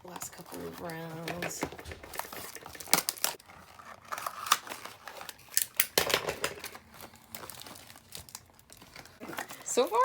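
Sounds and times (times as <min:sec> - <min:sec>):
packaging crinkling: 0:00.0 - 0:10.0
packaging clicks and snaps: 0:01.2 - 0:09.6.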